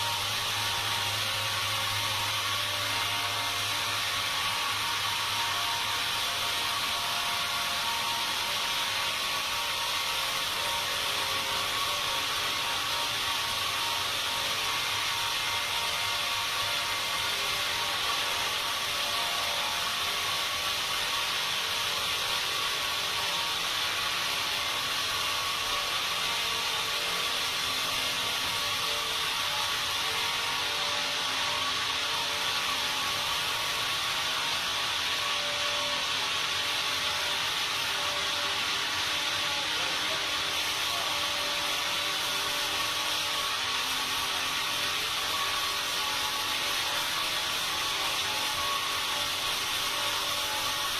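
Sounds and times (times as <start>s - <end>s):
sawmill machinery running: 0.0s - 50.9s.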